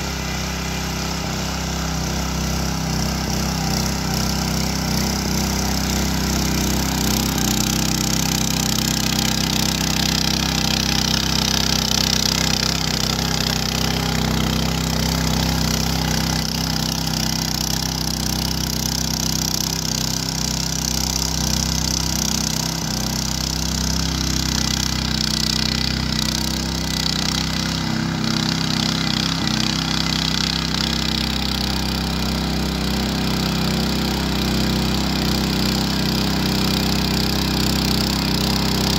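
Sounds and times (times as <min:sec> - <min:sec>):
motor tiller churning soil: 0:00.0 - 0:38.9.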